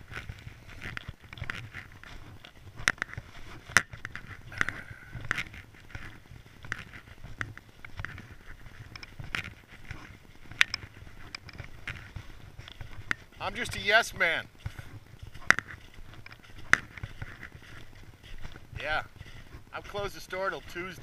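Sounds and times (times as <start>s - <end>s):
footsteps crunching on snow: 0.0s - 21.0s
sharp crackles and scrapes: 0.0s - 21.0s.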